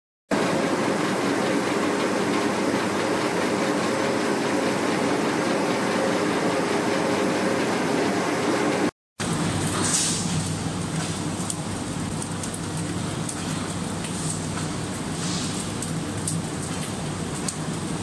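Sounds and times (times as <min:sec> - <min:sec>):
machine running mechanical din: 0:00.3 - 0:18.0.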